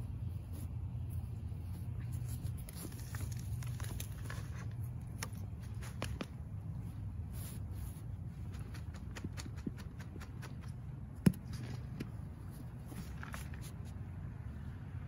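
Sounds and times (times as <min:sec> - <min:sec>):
compost crackling and pattering: 0:00.0 - 0:14.2
steady low rumble: 0:00.0 - 0:15.0.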